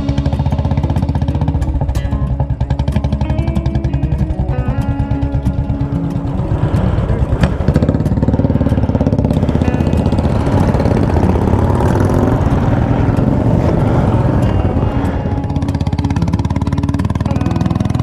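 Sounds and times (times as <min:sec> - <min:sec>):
guitar music: 0:00.0 - 0:18.0
motorcycle exhausts beating: 0:00.0 - 0:18.0.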